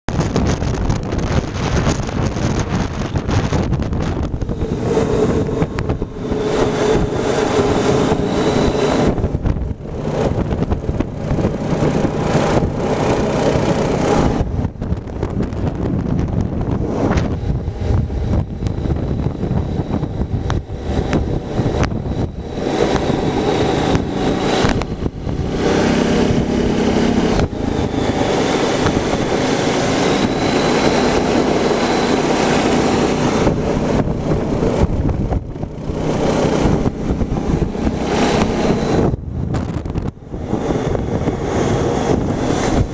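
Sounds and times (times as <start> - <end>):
quad engine running: 0.1 - 42.9.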